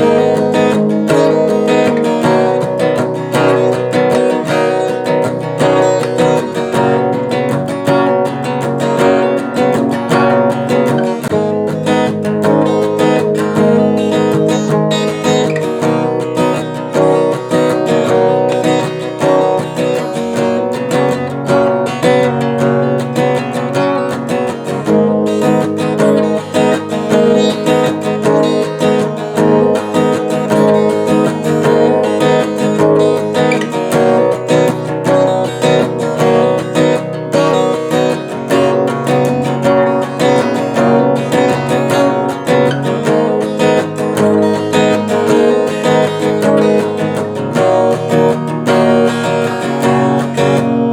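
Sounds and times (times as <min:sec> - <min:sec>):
strummed acoustic guitar: 0:00.0 - 0:50.9.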